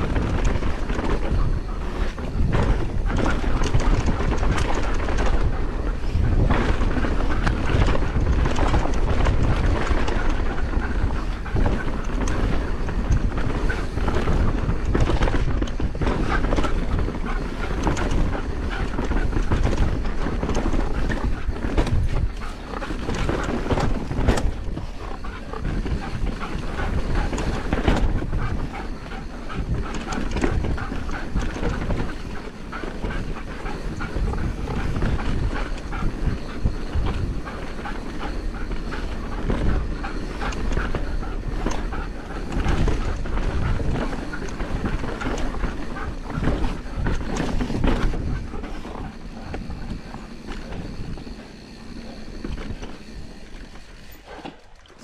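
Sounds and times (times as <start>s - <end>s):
dog panting: 0.0s - 54.8s
bike tyres rolling over dirt: 0.0s - 55.0s.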